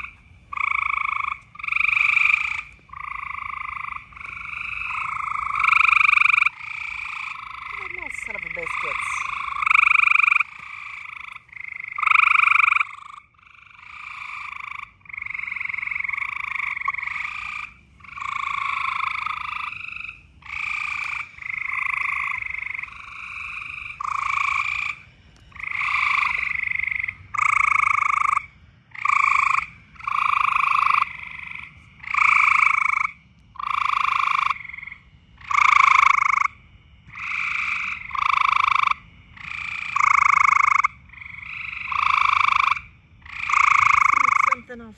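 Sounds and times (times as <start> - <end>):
frogs mating calls: 0.0 - 44.9.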